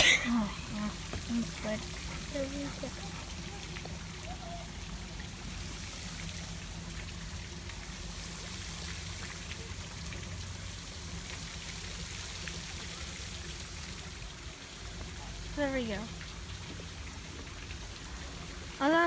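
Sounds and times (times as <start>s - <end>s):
low steady hum: 0.0s - 19.0s
running water rushing: 0.0s - 19.0s.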